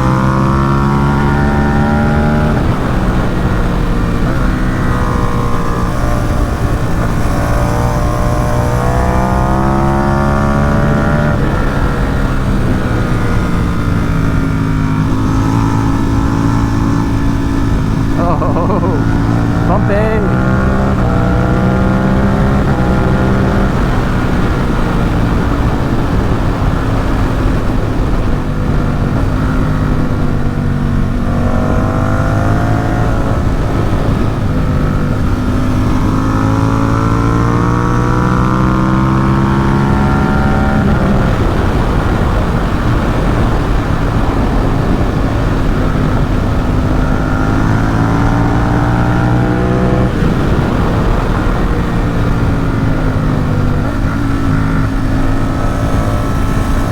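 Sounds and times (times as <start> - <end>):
motorcycle engine revving: 0.0 - 56.9
wind noise rushing: 0.0 - 56.9.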